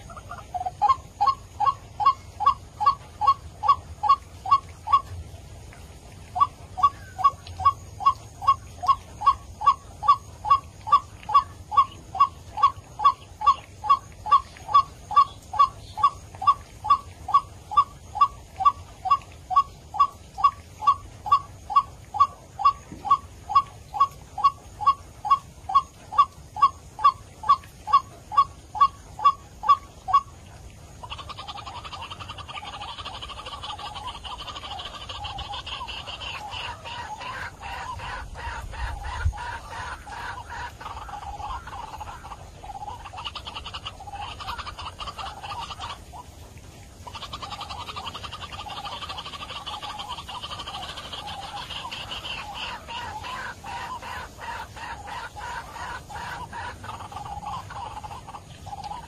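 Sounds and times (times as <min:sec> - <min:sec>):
waterhen calling: 0:00.0 - 0:59.0.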